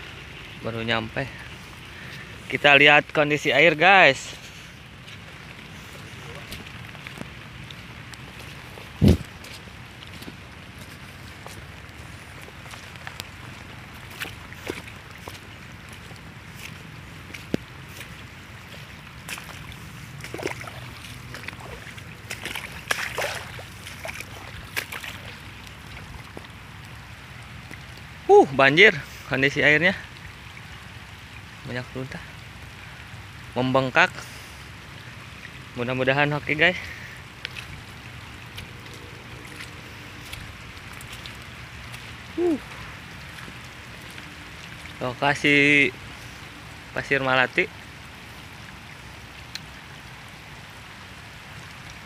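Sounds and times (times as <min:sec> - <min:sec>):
river rushing: 0:00.0 - 0:52.0.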